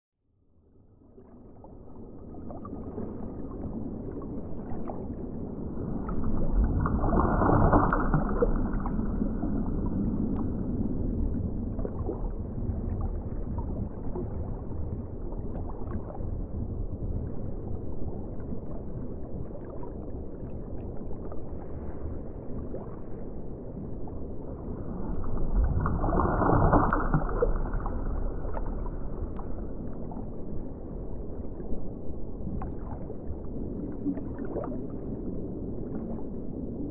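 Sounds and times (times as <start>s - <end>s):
muffled underwater rush: 0.5s - 36.9s.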